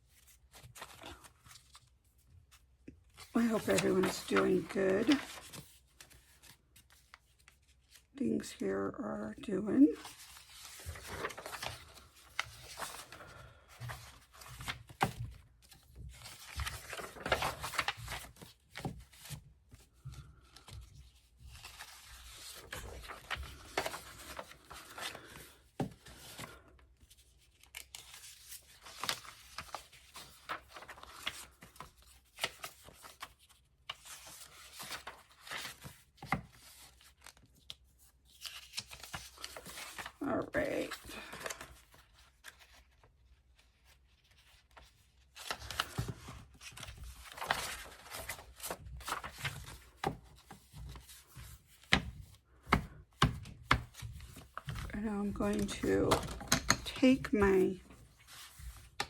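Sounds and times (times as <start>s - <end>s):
paper rustling and crinkling: 0.0s - 8.1s, 9.8s - 59.0s.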